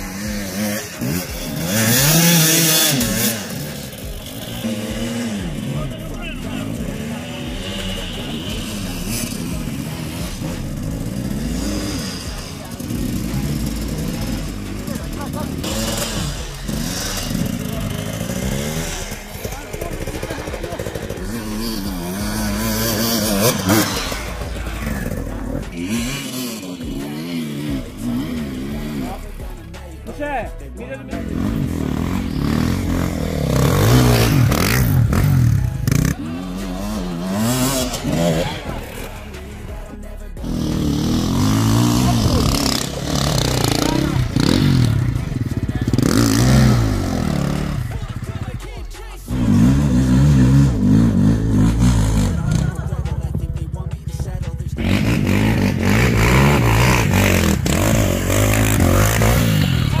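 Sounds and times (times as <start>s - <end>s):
dirt bike engine revving: 0.0s - 60.0s
motorcycle engine running close by: 0.0s - 60.0s.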